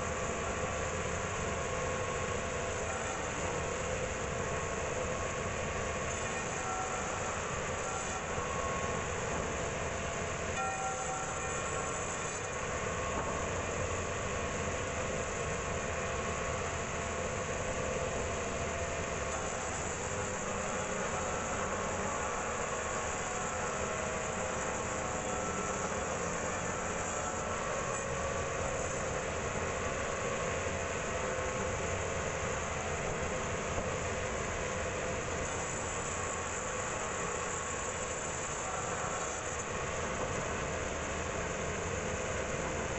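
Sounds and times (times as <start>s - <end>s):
band sawmill running: 0.0s - 42.9s.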